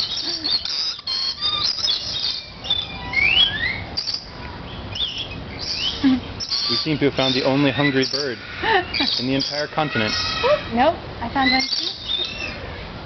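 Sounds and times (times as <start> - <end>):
lorikeets squawking and chirping: 0.0 - 13.0.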